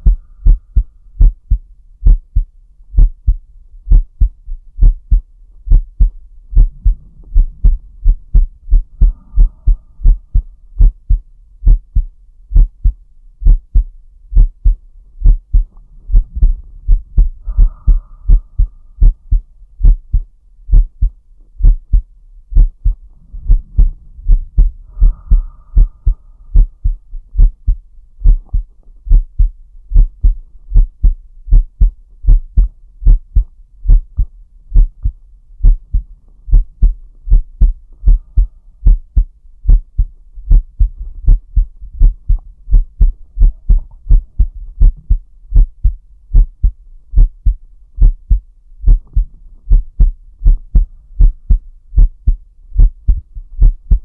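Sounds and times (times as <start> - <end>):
heartbeat: 0.0 - 54.0.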